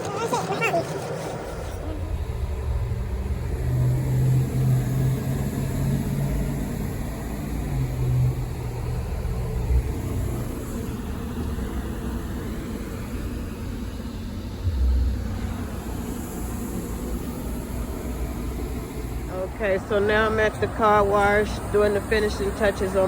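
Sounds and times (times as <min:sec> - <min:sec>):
low drone: 0:00.0 - 0:23.0
machine hum: 0:00.0 - 0:23.0
steady rushing noise: 0:00.0 - 0:23.0.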